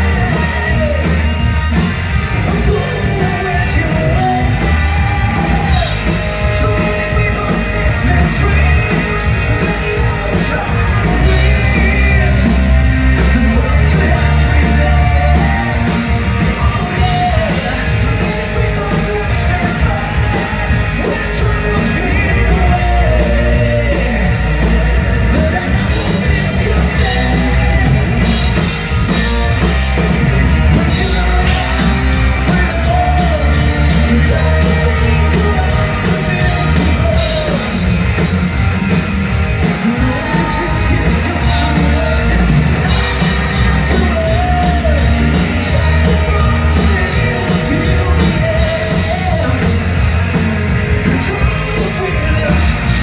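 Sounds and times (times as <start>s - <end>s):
bass guitar: 0.0s - 53.0s
drum kit with cymbals: 0.0s - 53.0s
electric guitars: 0.0s - 53.0s
man singing: 0.0s - 53.0s.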